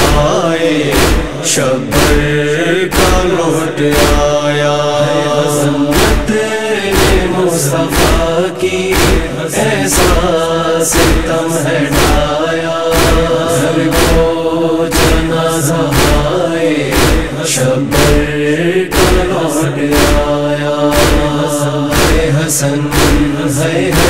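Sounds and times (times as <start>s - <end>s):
steady percussive beat: 0.0s - 4.4s, 5.9s - 24.0s
chorus chanting a lament: 0.0s - 24.0s.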